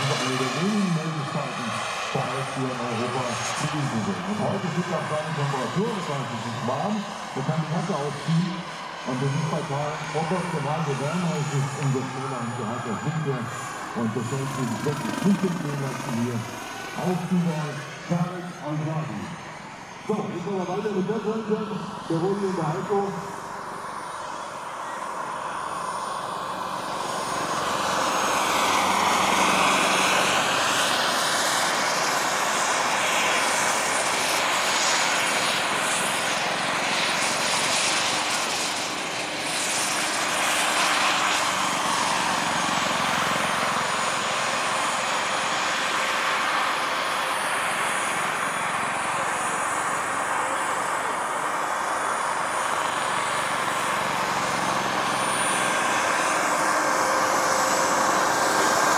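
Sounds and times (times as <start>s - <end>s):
helicopter rotor and engine rushing: 0.0s - 58.9s
high turbine whine: 0.0s - 58.9s.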